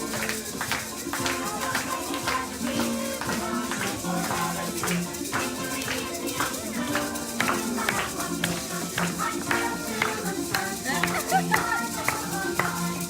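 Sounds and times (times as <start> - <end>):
shaker and tambourine rhythm: 0.0 - 13.0
upbeat music: 0.0 - 13.0.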